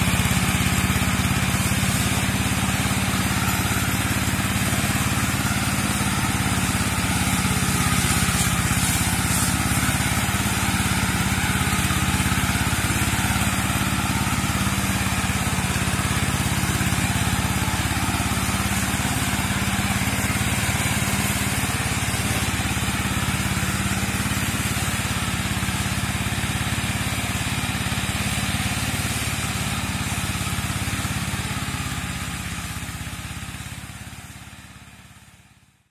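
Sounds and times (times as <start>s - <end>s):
mower engine running: 0.0s - 35.8s.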